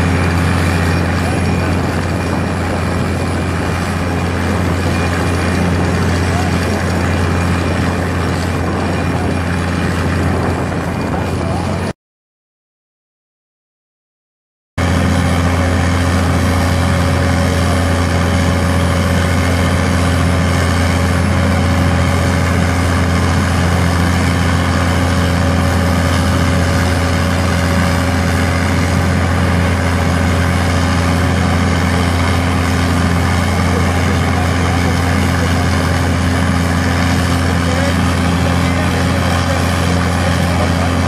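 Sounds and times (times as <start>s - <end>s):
vibratory pile hammer humming: 0.0s - 11.9s, 14.8s - 41.0s.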